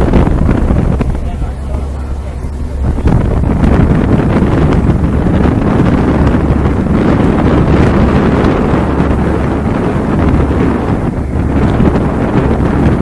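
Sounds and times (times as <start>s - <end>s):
ferry engine drone: 0.0s - 13.0s
wind buffeting microphone: 0.0s - 13.0s.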